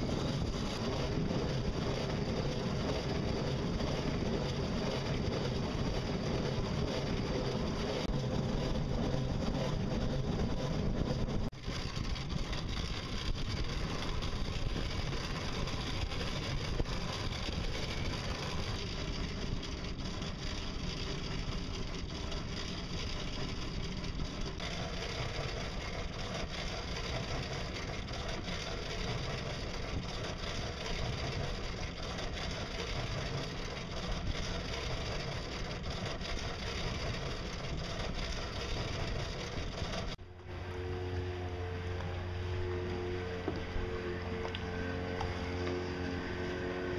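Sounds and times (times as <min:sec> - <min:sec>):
boat mechanical running noise: 0:00.0 - 0:46.9.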